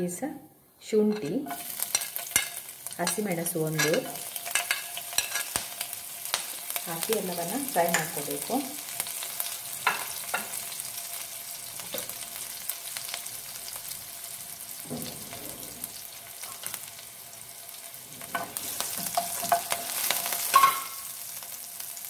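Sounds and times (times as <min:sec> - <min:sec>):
spices sizzling in butter: 0:01.1 - 0:22.0.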